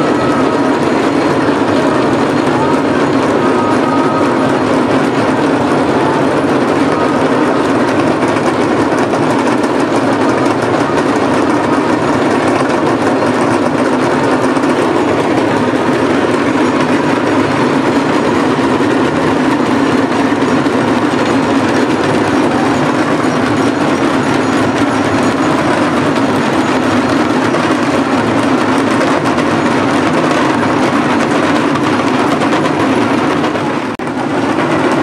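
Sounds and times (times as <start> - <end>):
drum band rapid drumming: 0.0 - 35.0
festival crowd din: 0.0 - 35.0.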